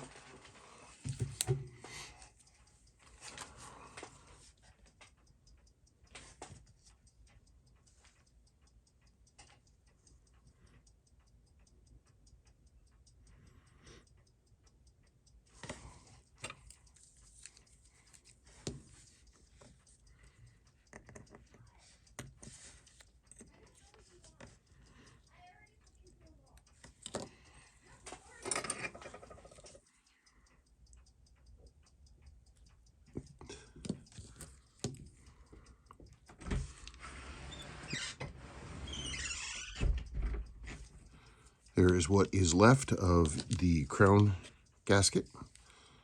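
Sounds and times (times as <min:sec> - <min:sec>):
mechanical watch ticking: 0:00.8 - 0:46.0.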